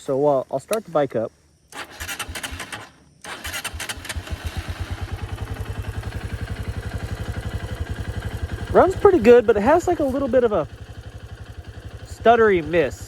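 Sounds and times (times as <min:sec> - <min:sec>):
motorcycle engine idling: 0:01.6 - 0:13.0
motorcycle engine cranking: 0:01.7 - 0:13.0.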